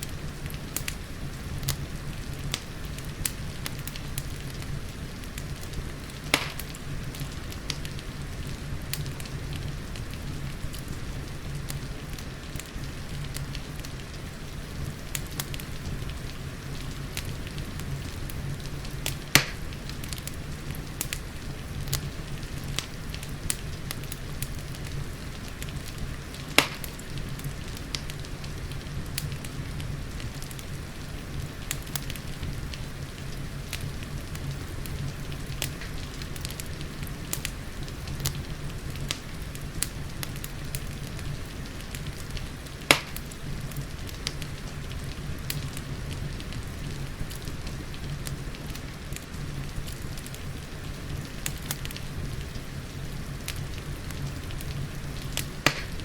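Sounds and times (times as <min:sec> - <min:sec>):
fireplace fire crackling: 0:00.0 - 0:56.0
rain hissing: 0:00.0 - 0:56.0.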